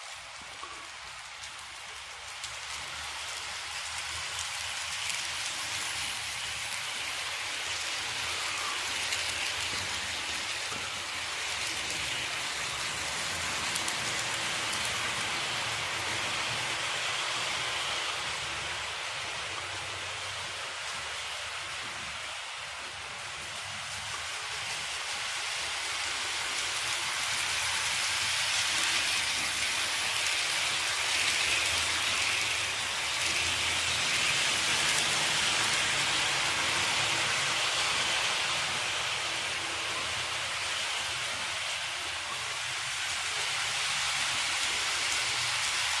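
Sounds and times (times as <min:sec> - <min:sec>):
model train rushing hiss: 0:00.0 - 0:46.0.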